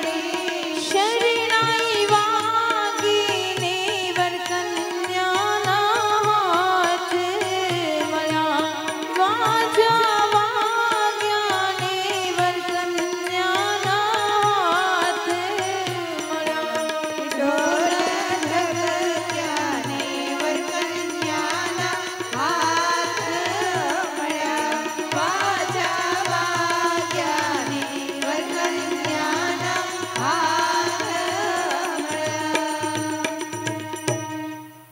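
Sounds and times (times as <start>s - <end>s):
women singing through microphones: 0.0s - 34.5s.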